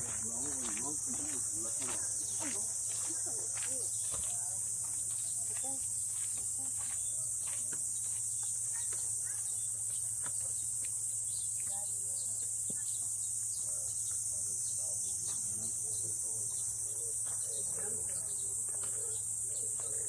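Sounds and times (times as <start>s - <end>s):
insect chirps and clicks: 0.0s - 20.0s
insects droning: 0.0s - 20.0s.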